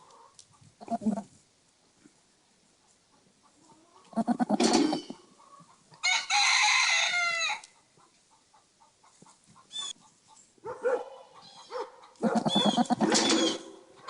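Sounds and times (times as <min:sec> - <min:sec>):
farm animal calls: 0:00.0 - 0:01.4, 0:03.1 - 0:06.2, 0:07.1 - 0:14.0.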